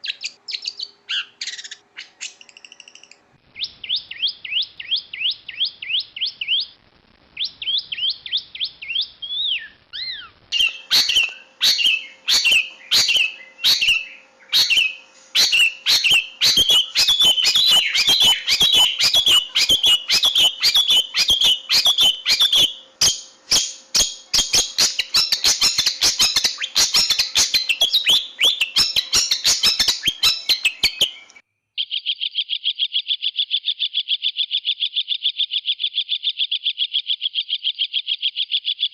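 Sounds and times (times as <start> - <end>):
bird fast trill: 0.0 - 6.8, 7.4 - 38.9
bird singing chattering notes: 0.0 - 6.8, 7.4 - 38.9.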